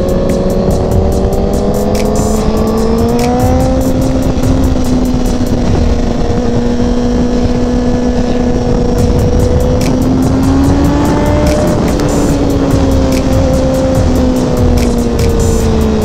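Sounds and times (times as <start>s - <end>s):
motorcycle engine accelerating: 0.0s - 16.0s
wind on microphone: 0.0s - 16.0s.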